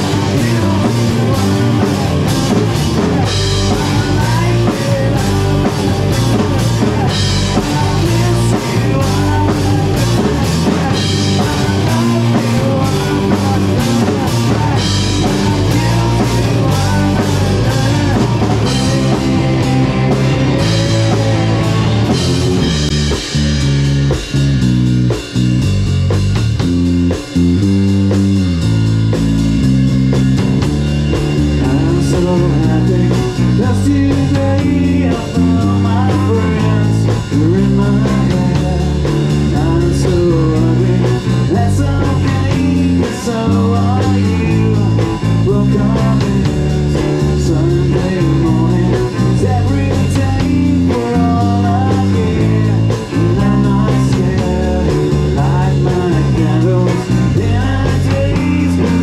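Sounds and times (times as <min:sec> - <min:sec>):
man singing: 0:00.0 - 0:22.2, 0:31.6 - 0:59.0
live rock band playing: 0:00.0 - 0:59.0.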